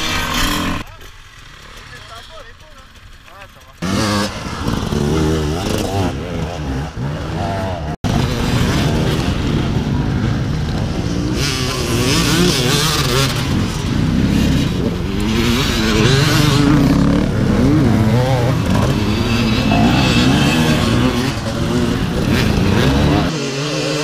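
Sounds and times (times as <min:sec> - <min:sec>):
dirt bike engine revving: 0:00.0 - 0:03.2, 0:03.8 - 0:24.0.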